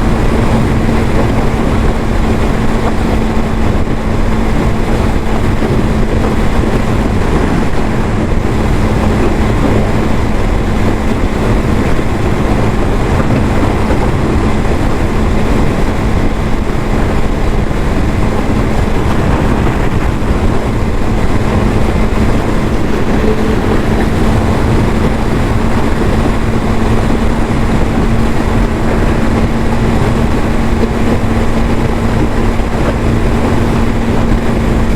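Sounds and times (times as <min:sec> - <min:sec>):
loud even rushing noise: 0:00.0 - 0:34.9
motorcycle engine running steadily: 0:00.0 - 0:34.9.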